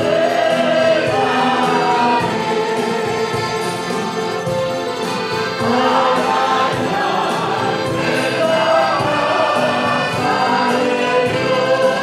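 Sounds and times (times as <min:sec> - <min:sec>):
choir singing a hymn: 0:00.0 - 0:12.0
instrumental accompaniment: 0:00.0 - 0:12.0.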